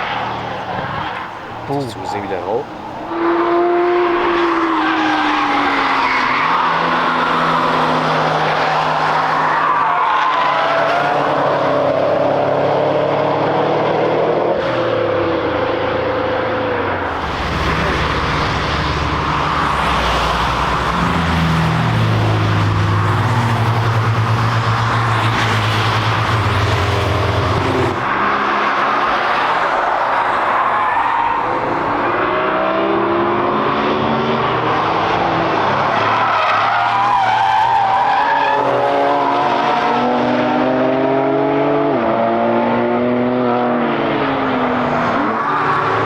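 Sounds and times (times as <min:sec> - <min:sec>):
race cars passing at speed: 0:00.0 - 0:46.0.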